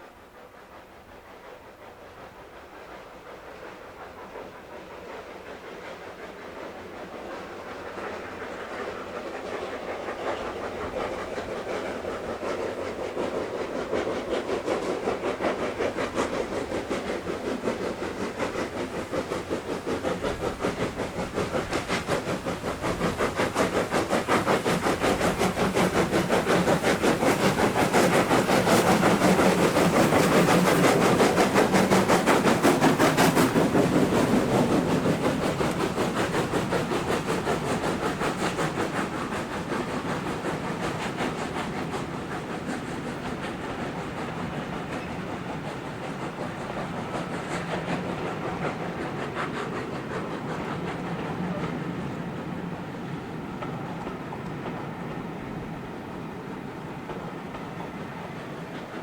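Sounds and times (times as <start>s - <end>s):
steam locomotive passing: 0.0s - 59.0s
rail clatter: 2.2s - 59.0s.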